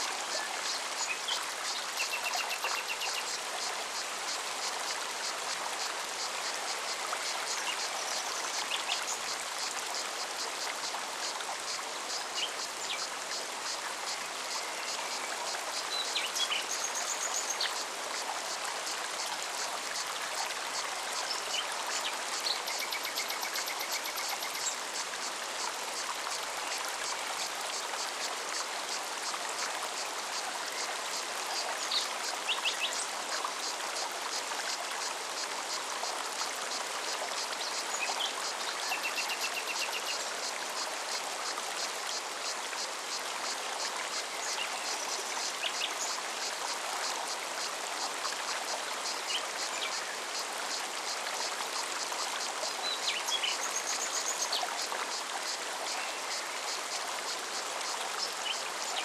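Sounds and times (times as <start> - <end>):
mountain stream running: 0.0 - 59.0.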